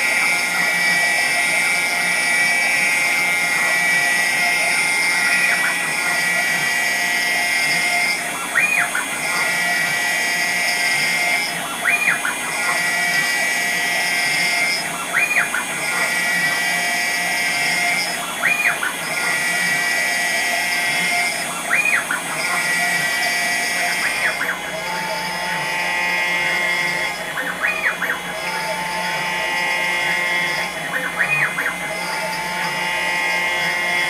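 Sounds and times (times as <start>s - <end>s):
router spindle whining cutting metal: 0.0s - 34.0s.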